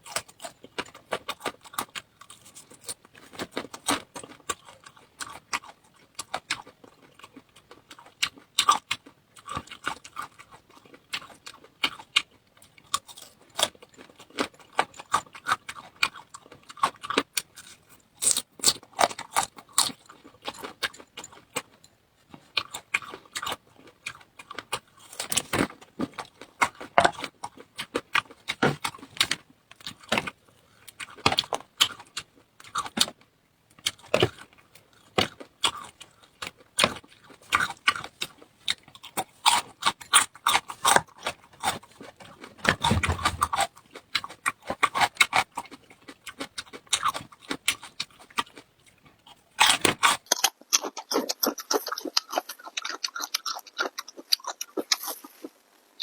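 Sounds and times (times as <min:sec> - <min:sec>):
person chewing with mouth clicks: 0:00.0 - 0:55.6.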